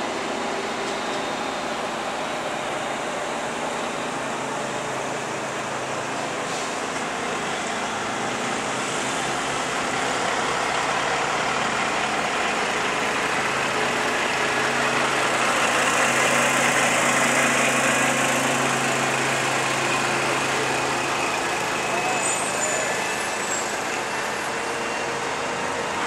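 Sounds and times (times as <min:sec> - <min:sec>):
noisy wash of passing load: 0:00.0 - 0:21.9
heavy vehicle engines humming: 0:00.0 - 0:26.0.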